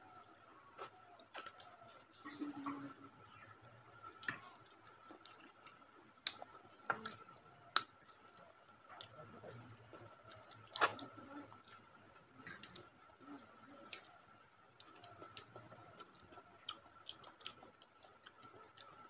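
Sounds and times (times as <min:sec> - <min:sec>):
people chewing noodles: 0:00.0 - 0:19.0.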